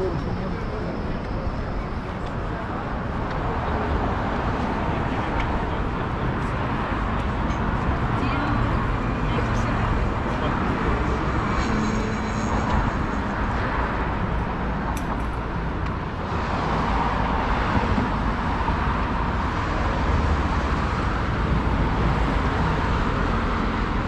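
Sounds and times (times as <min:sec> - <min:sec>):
passing cars traffic noise: 0:00.0 - 0:24.0.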